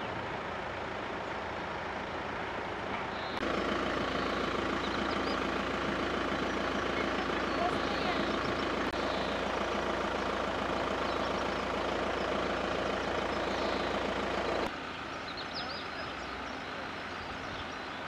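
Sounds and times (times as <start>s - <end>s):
engine idling: 0.0s - 18.0s
outdoor ambience: 0.0s - 18.0s.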